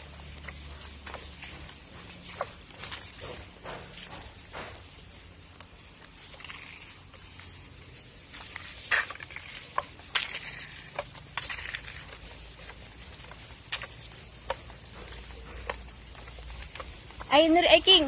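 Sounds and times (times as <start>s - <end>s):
footsteps on paved path: 0.0s - 18.0s.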